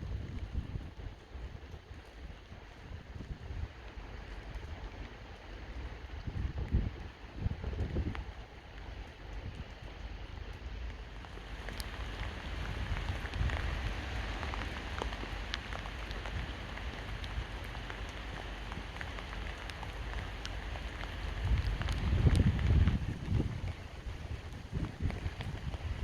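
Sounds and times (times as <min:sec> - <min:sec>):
steady rain falling: 0:00.0 - 0:26.0
wind rumble on microphone: 0:00.0 - 0:26.0
raindrops ticking: 0:00.1 - 0:26.0.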